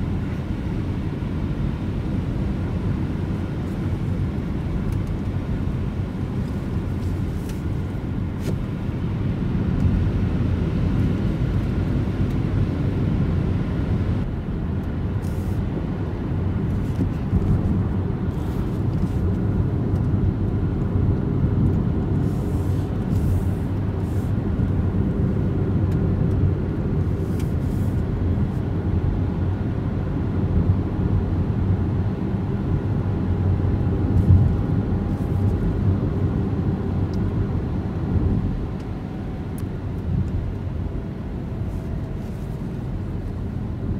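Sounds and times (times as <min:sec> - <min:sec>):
road and tyre rumble: 0:00.0 - 0:43.9.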